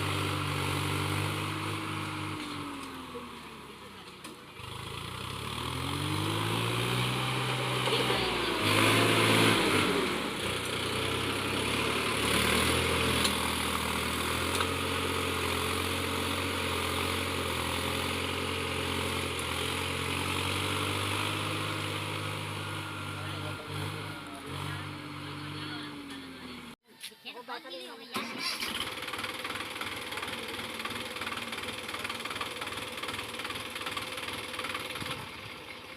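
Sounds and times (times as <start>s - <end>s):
tractor diesel engine running: 0.0s - 26.8s, 28.2s - 35.9s.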